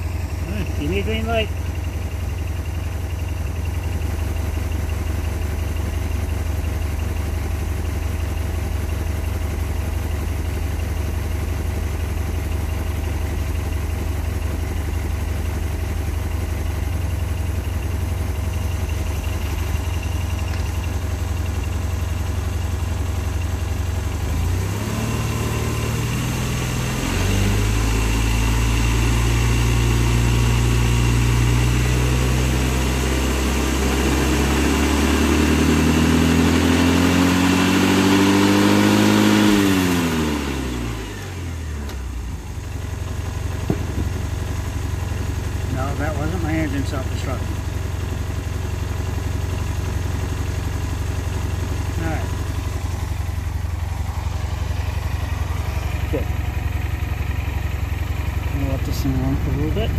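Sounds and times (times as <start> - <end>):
scooter engine idling and revving: 0.0 - 59.9.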